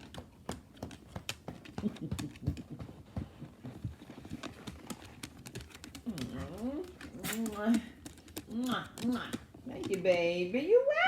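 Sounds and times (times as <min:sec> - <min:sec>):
dog claws clicking on hard floor: 0:00.0 - 0:10.7.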